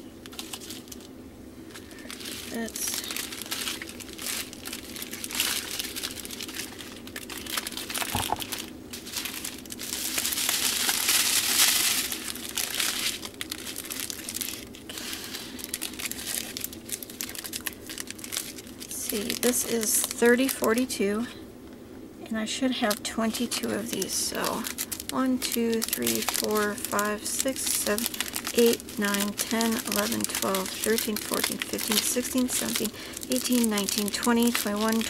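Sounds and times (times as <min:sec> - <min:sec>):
plastic packets crinkling: 0:00.2 - 0:20.8, 0:22.7 - 0:35.0.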